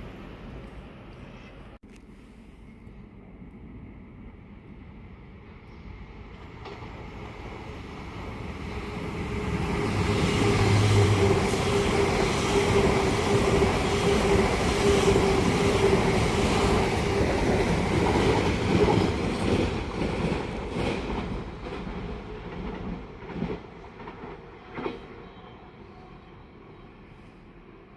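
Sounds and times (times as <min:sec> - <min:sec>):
train passing with whine: 0:02.4 - 0:27.9.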